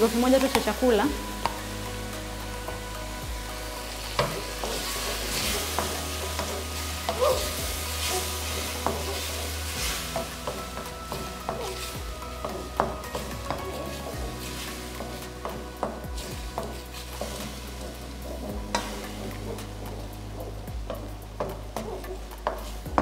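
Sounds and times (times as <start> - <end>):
chicken sizzling in hot oil: 0.0 - 23.0
wooden spatula scraping a wok: 0.0 - 23.0.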